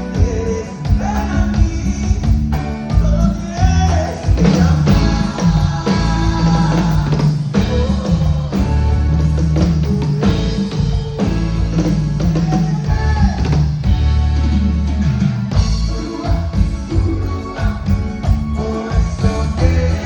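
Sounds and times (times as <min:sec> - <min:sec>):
bass: 0:00.0 - 0:20.0
drums: 0:00.0 - 0:20.0
electric guitar melody: 0:00.0 - 0:20.0.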